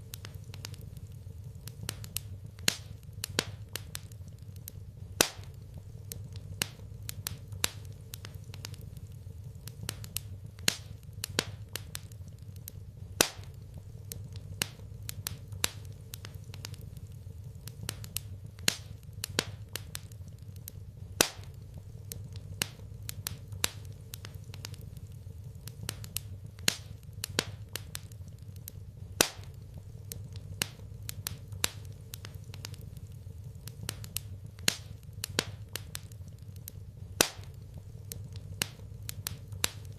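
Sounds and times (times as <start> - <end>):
steady low hum: 0.0 - 39.9
wood fire crackling: 0.0 - 39.9.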